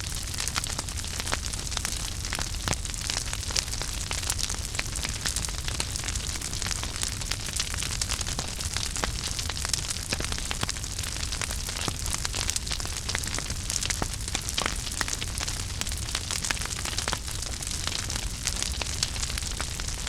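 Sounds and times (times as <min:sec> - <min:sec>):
fire rumbling and hissing: 0:00.0 - 0:20.0
wood fire crackling and popping: 0:00.0 - 0:20.0.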